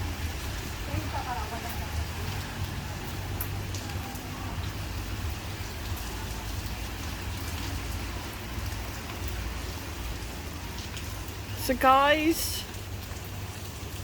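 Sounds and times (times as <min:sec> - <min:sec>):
torrential rain: 0:00.0 - 0:14.0.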